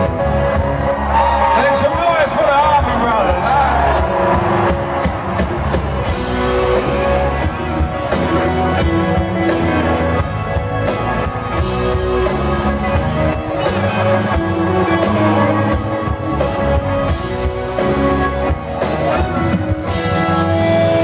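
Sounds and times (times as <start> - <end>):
electric guitars: 0.0 - 21.0
live rock band: 0.0 - 21.0
steady drum beat: 0.0 - 21.0.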